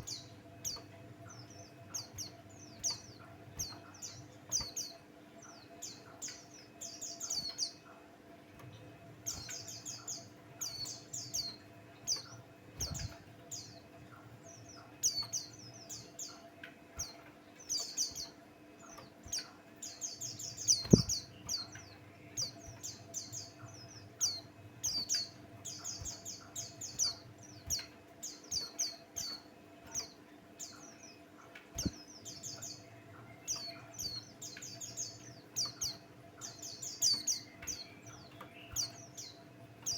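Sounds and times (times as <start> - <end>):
faint steady hum: 0.0 - 39.9
songbird chirping and trilling: 0.0 - 39.9.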